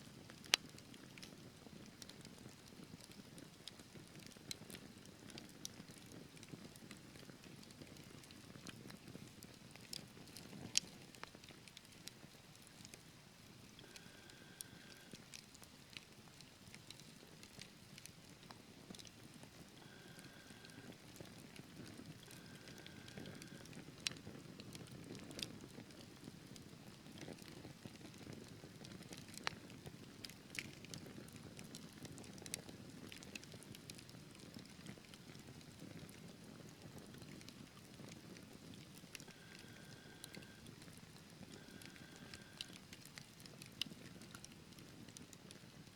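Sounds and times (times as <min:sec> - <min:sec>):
fire crackling and popping: 0:00.1 - 0:45.9.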